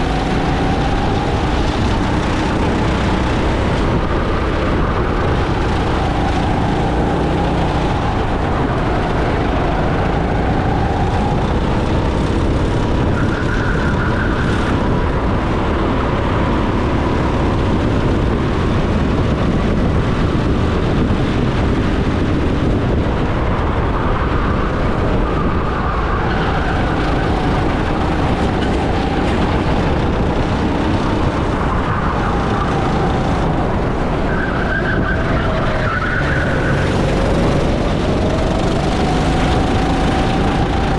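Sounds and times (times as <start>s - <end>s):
go-kart engine revving: 0.0s - 40.9s
wind and tyre rushing: 0.0s - 40.9s.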